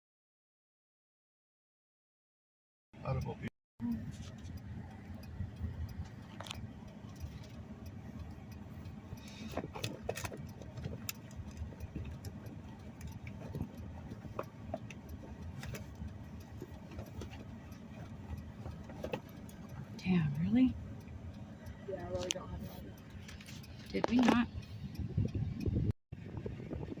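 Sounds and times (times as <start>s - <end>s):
car idling low rumble: 3.0s - 27.0s.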